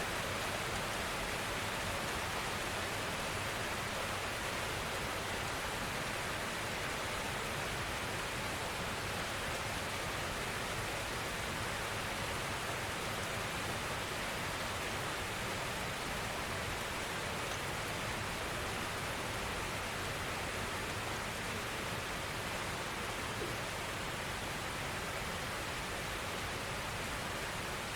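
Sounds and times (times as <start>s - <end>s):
gentle rainfall hiss: 0.0s - 27.9s.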